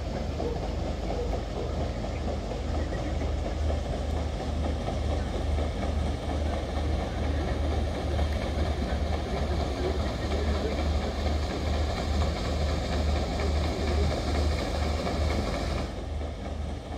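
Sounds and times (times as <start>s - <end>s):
low engine rumble: 0.0s - 16.9s
paddle wheels churning: 0.0s - 16.9s.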